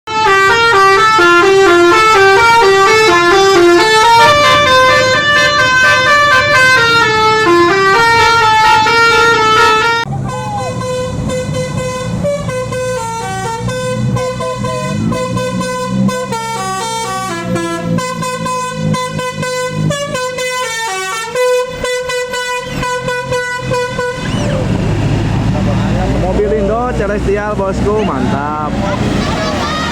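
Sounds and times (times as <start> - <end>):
multi-tone bus horn melody: 0.1 - 25.3, 26.4 - 29.9
bus engine running under load: 0.1 - 29.9.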